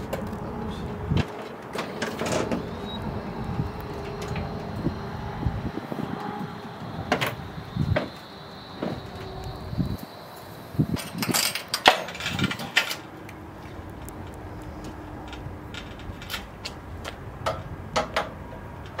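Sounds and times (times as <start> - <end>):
faint steady hum: 1.8 - 17.9.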